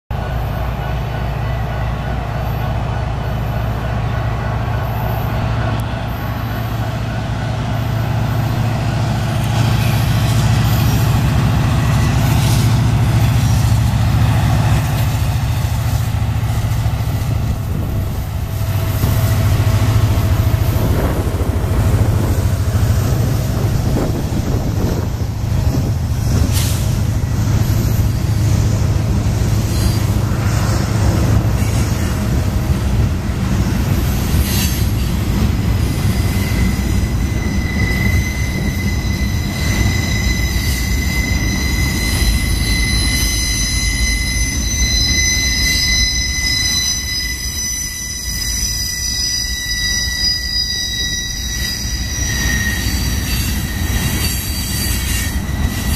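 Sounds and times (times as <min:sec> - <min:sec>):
diesel locomotives droning: 0:00.1 - 0:55.9
train cars rolling past: 0:00.1 - 0:55.9.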